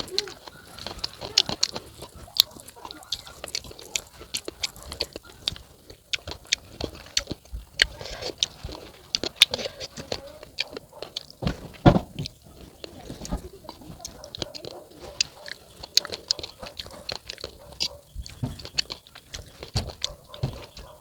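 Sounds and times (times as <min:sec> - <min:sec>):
person chewing crisp fruit: 0:00.0 - 0:21.0.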